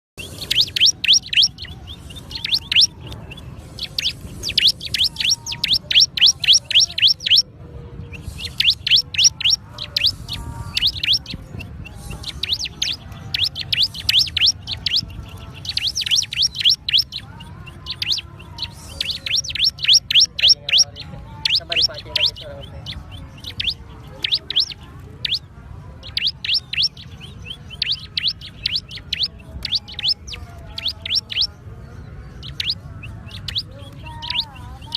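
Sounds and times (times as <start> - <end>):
bird singing rapid high chirps: 0.2 - 34.9.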